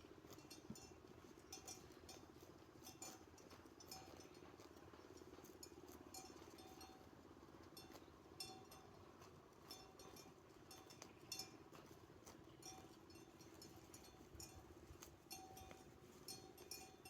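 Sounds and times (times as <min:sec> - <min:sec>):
sheep bells clinking: 0:00.0 - 0:17.0
steady low hum: 0:00.0 - 0:17.0.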